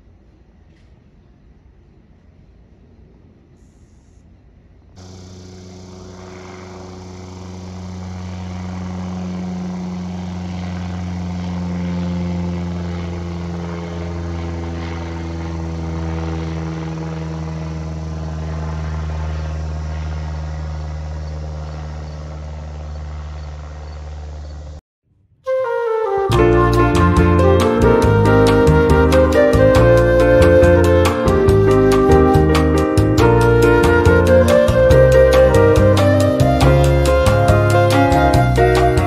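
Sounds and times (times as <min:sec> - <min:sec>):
propeller plane droning overhead: 0:02.5 - 0:24.8, 0:25.5 - 0:39.0.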